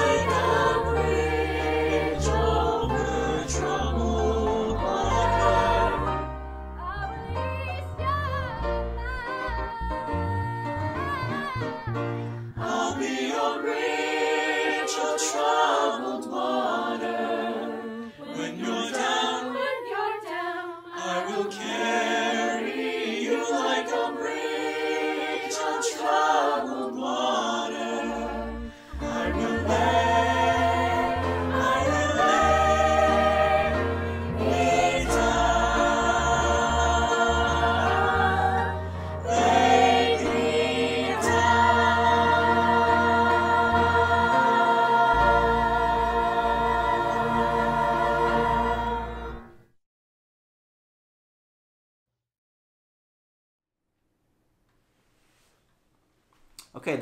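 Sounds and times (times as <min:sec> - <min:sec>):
mixed choir singing in harmony: 0:00.0 - 0:49.6.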